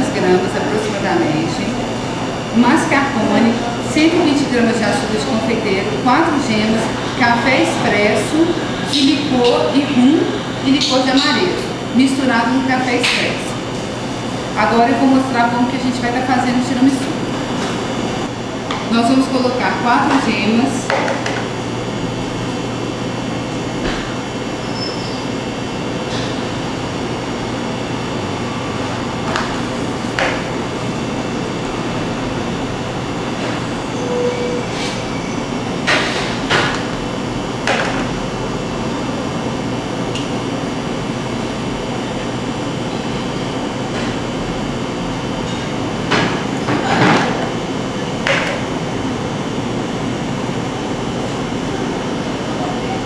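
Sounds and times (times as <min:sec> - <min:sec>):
kitchen machinery running: 0:00.0 - 0:53.0
steady background hum: 0:00.0 - 0:53.0.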